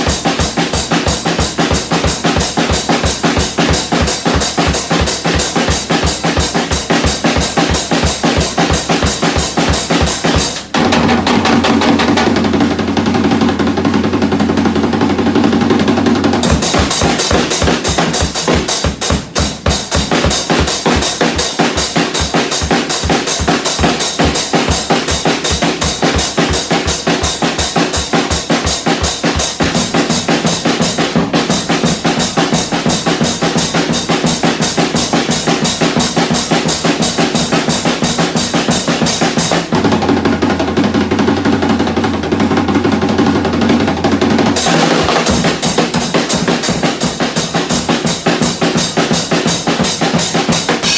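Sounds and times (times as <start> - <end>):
drum kit played fast: 0.0 - 50.9.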